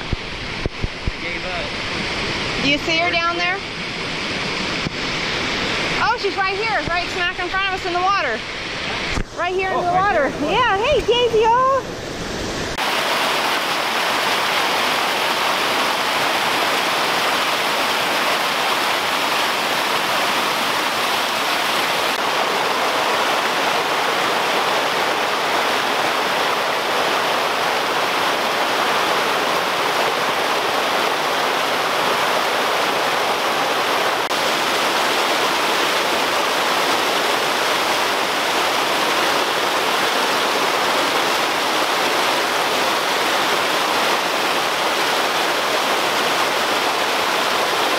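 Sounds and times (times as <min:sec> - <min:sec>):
water rushing over rocks: 0:00.0 - 0:47.9.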